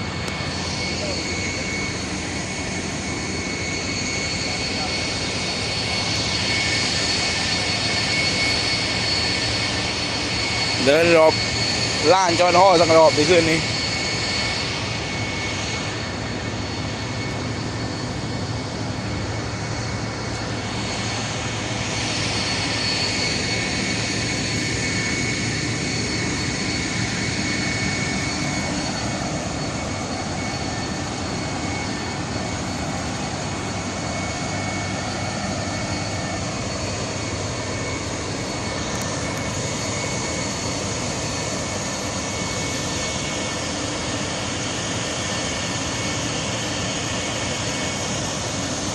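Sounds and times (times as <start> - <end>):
boat engine droning with whine: 0.0 - 48.9.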